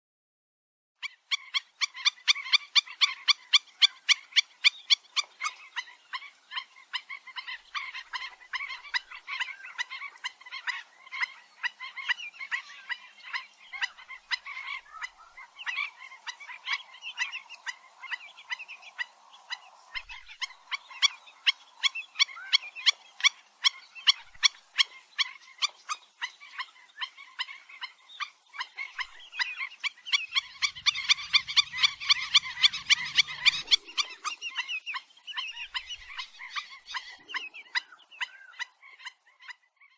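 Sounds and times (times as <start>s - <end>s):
birds yapping calls: 1.0s - 39.9s.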